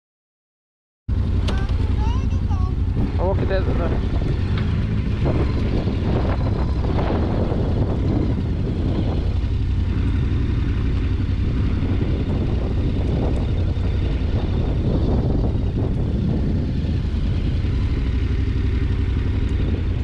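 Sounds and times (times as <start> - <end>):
motorcycle engine low rumble: 1.1 - 20.0.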